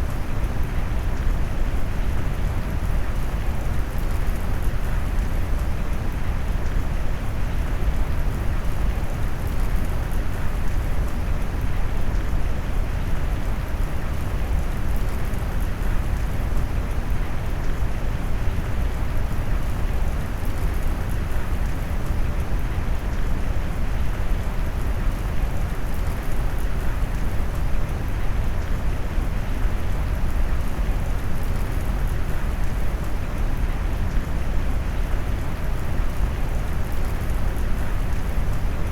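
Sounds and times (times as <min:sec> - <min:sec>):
rain: 0:00.0 - 0:38.9.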